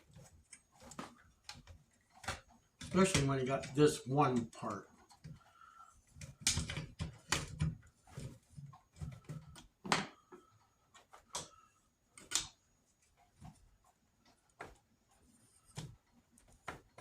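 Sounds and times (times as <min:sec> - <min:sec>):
plastic parts clicking and knocking: 0:00.0 - 0:17.0.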